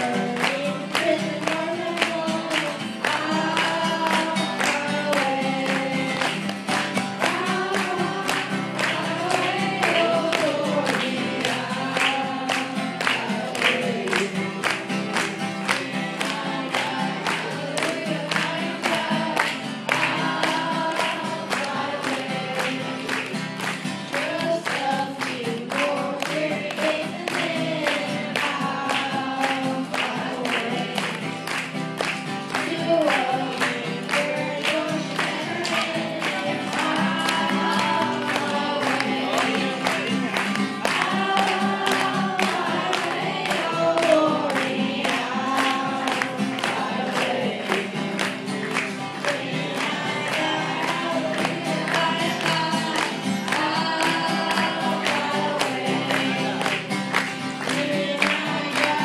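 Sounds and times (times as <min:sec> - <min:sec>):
boys singing gospel song: 0:00.0 - 0:31.7, 0:32.4 - 0:59.0
strummed acoustic guitar: 0:00.0 - 0:59.0.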